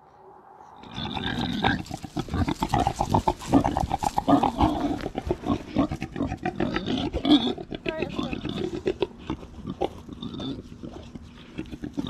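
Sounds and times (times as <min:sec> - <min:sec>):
pigs grunting rhythmically: 0:00.9 - 0:12.0.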